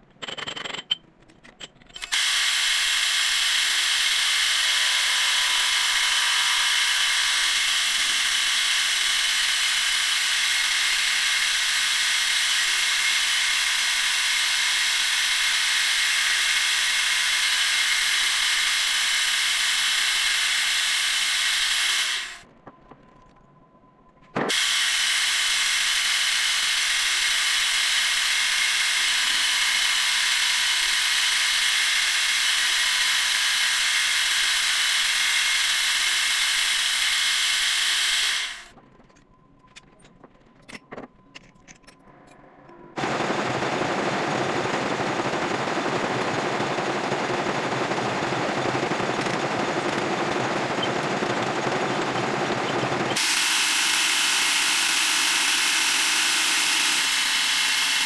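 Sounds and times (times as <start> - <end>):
metal lathe cutting steel: 2.0 - 22.4, 24.5 - 38.7, 43.0 - 58.0.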